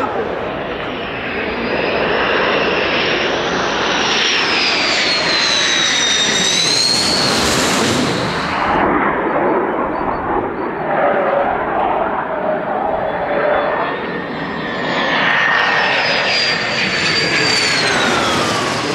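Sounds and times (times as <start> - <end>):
jet engine roar with high whine: 0.0 - 18.9.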